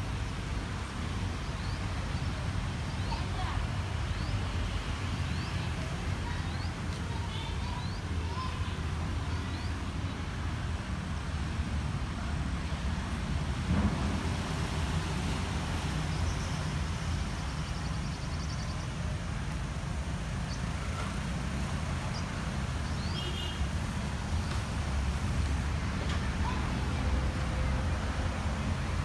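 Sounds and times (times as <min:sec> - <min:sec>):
rumble of passing vehicles: 0:00.0 - 0:29.0.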